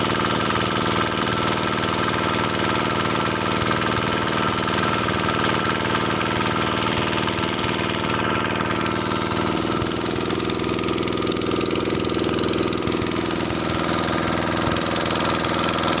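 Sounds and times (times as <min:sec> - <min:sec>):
engine chugging: 0:00.0 - 0:16.0.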